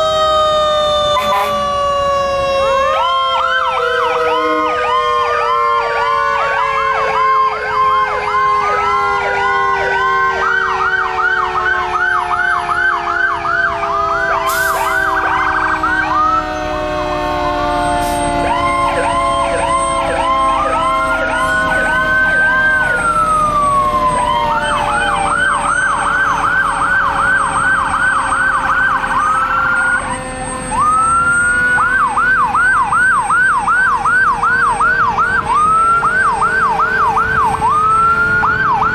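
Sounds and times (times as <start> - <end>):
siren wailing: 0.0 - 38.9
sirens yelping: 0.0 - 38.9.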